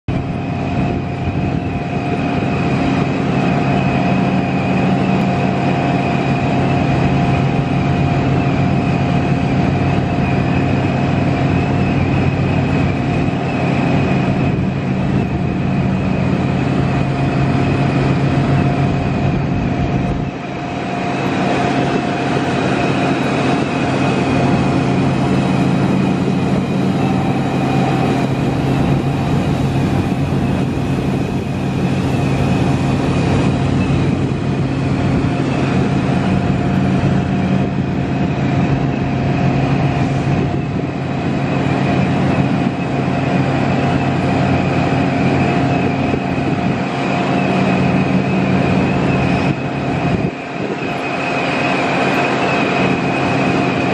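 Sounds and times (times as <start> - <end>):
conveyor industrial rumble: 0.0 - 53.9
steady machine hum: 0.1 - 53.9.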